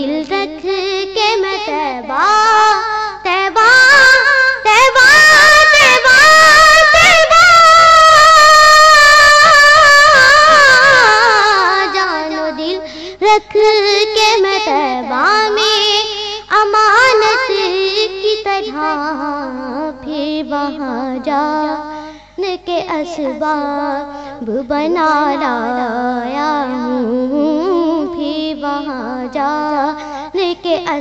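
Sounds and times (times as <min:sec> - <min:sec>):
boy singing into a microphone: 0:00.0 - 0:31.0.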